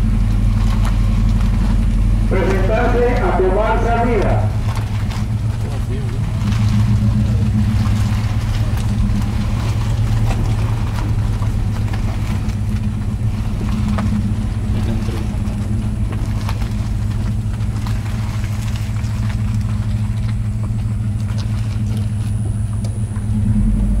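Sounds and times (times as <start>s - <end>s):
car engines idling: 0.0s - 24.0s.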